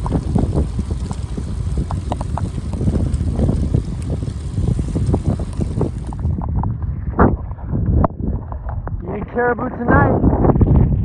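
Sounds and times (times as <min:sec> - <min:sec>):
bicycle tyres on wet gravel: 0:00.0 - 0:09.5
wind rushing over microphone: 0:00.0 - 0:11.0.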